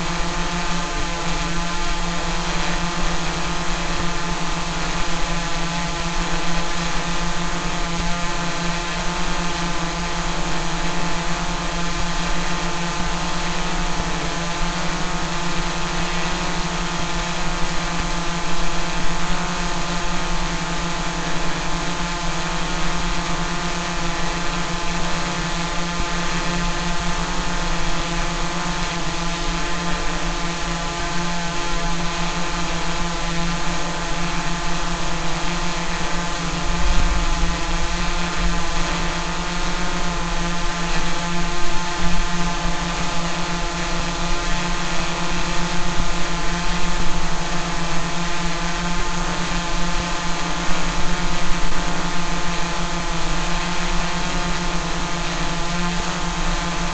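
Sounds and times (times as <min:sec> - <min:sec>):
drone propellers buzzing: 0:00.0 - 0:56.9.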